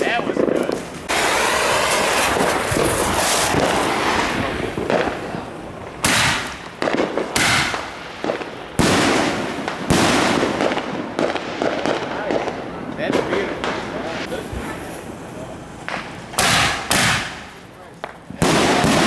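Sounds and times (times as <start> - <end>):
fireworks crackling: 0.0 - 19.0
fireworks sharp bangs: 0.0 - 19.0.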